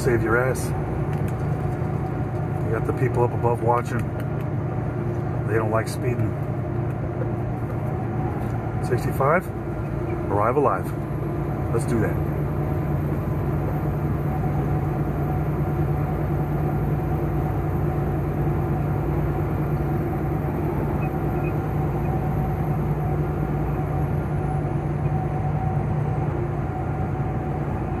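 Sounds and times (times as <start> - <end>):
truck engine and tyres droning: 0.0 - 28.0.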